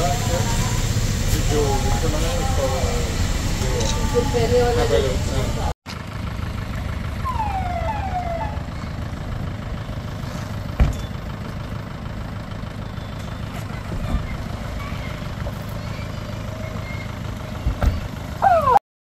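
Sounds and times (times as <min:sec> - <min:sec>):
low rumble of traffic: 0:00.0 - 0:18.8.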